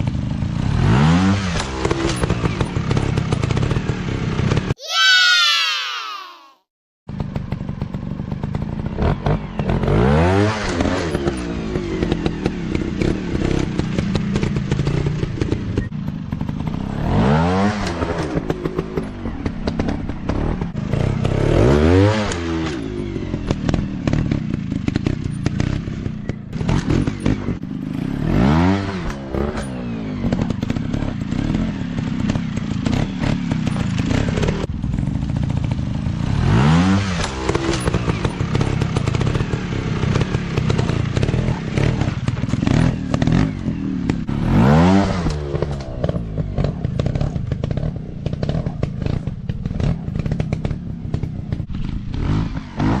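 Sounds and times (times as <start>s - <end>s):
other dirt bikes running: 0.0s - 4.8s, 7.1s - 53.0s
dirt bike engine revving: 0.5s - 5.4s, 7.2s - 53.0s.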